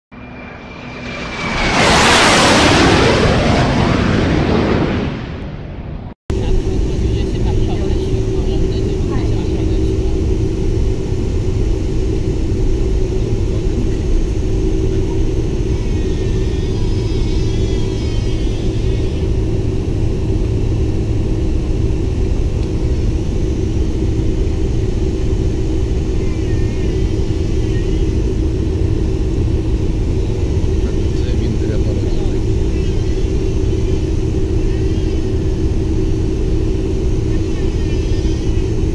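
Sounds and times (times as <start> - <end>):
jet engines rumbling in cabin: 0.1 - 38.9.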